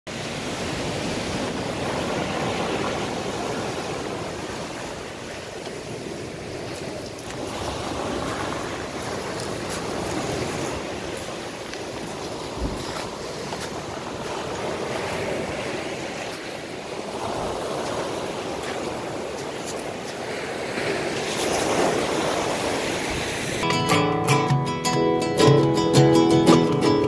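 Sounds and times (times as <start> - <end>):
waves breaking on pebble beach: 0.1 - 23.6.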